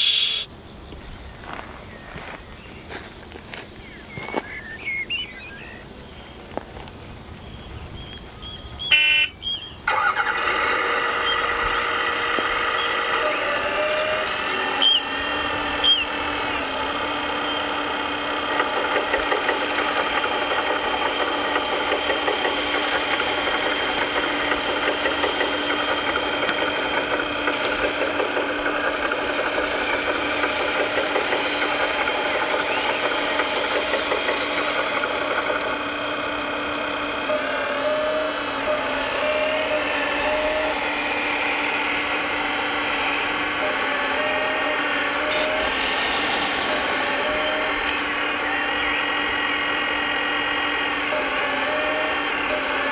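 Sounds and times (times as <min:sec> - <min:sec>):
rc machine motor whining: 0:05.8 - 0:52.9.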